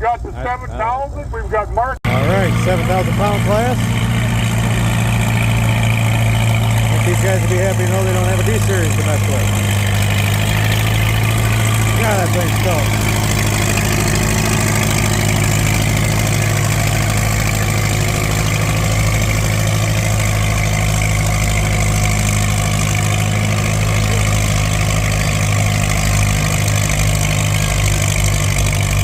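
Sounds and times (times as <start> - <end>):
tractor engine running under load: 2.0 - 29.0.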